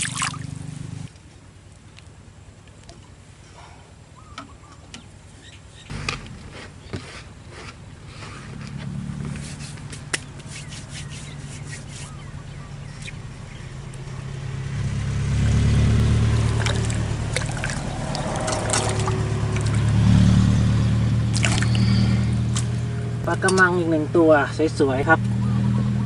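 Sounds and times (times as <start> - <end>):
engine humming as vehicle passes: 0.0 - 1.1, 5.8 - 26.0.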